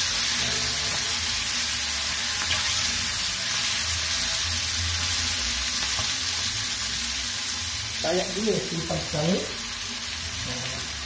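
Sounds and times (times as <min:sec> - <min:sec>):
beans sizzling in hot oil: 0:00.0 - 0:11.0.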